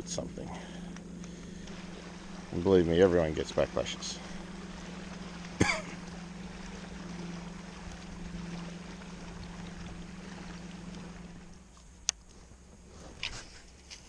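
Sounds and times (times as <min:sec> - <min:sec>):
steady low hum: 0:00.0 - 0:14.0
water lapping around kayak: 0:00.0 - 0:14.0.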